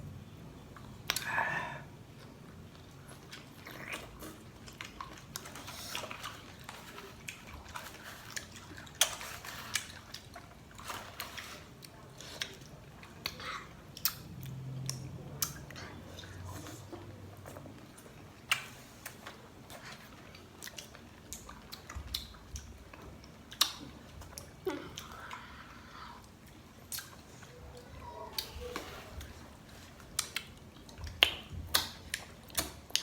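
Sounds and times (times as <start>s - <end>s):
person chewing crunchy fruit: 2.0s - 33.0s.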